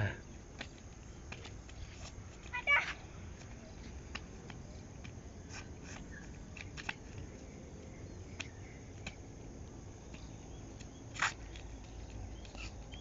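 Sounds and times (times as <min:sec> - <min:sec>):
flip-flops slapping on asphalt: 0:00.4 - 0:13.0.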